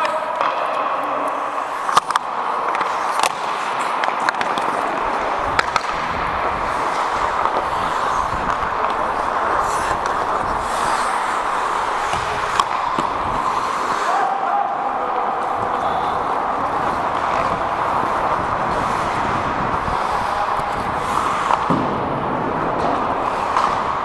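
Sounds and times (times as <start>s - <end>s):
echoing rink din: 0.0s - 24.0s
hockey sticks and puck clacking: 0.0s - 24.0s
skate blades scraping ice: 1.4s - 24.0s.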